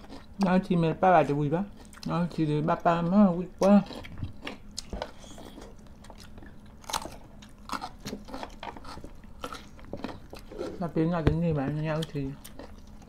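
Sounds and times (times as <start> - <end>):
people chewing and crunching food: 0.0 - 13.0.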